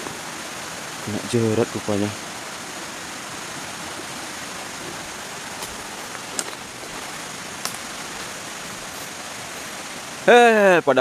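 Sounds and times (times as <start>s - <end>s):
rushing forest background noise: 0.0s - 11.0s.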